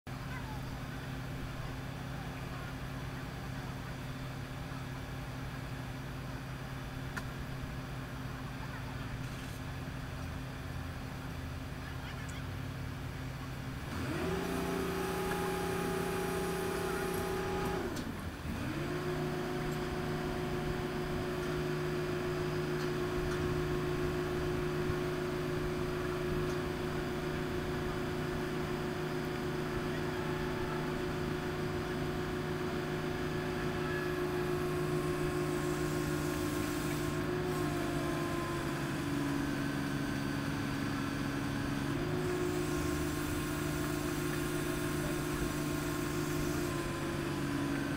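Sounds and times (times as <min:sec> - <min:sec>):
diesel engine running: 0:00.1 - 0:47.9.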